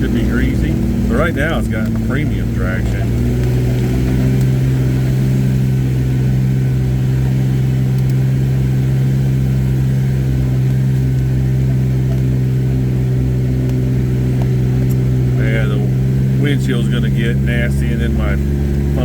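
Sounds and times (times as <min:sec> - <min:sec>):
engine droning from inside cab: 0:00.0 - 0:19.0.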